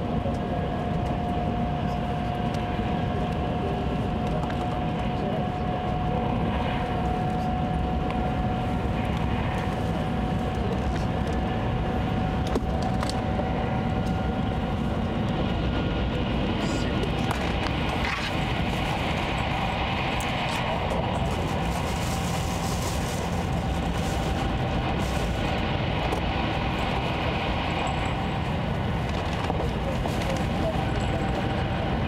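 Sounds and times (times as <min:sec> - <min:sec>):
train interior rumble: 0:00.0 - 0:32.0.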